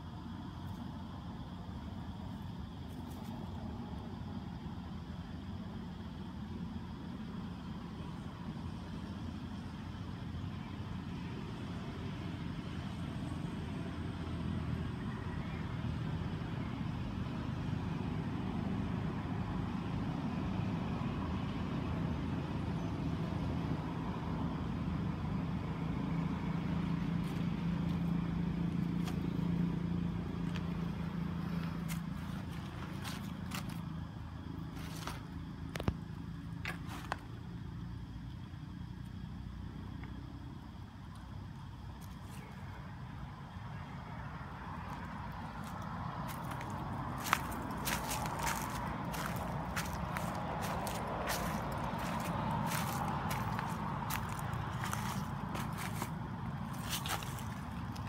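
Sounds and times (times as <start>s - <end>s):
engine low hum: 0.0s - 58.0s.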